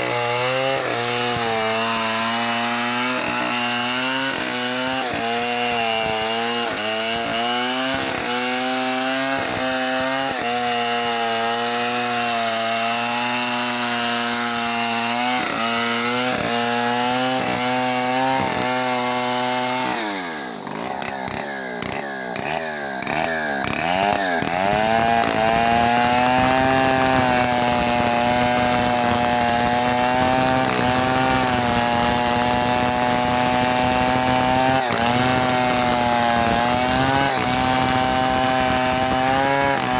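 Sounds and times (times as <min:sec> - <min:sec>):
chainsaw ripping log: 0:00.0 - 0:39.9
chainsaw throttle blips: 0:00.0 - 0:39.9.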